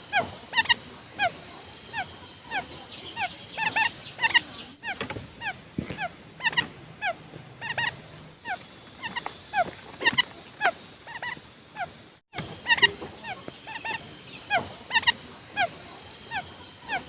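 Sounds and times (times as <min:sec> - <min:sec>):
quail calling: 0:00.0 - 0:17.0.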